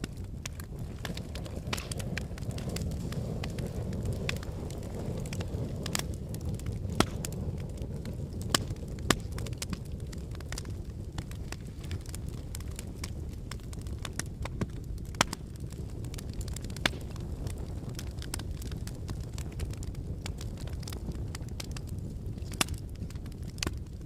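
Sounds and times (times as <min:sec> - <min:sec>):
fireplace flames rushing: 0:00.0 - 0:24.0
logs crackling and popping: 0:00.0 - 0:24.0.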